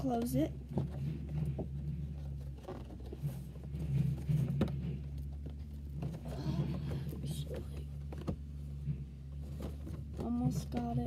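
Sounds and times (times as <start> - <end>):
cardboard box rustling and scraping: 0.0 - 11.0
steady low hum: 0.0 - 11.0.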